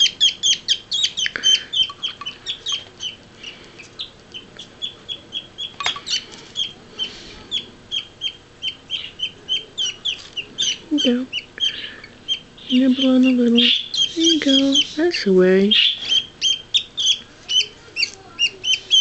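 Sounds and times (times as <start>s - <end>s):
parakeet chicks begging cheeps: 0.0s - 19.0s.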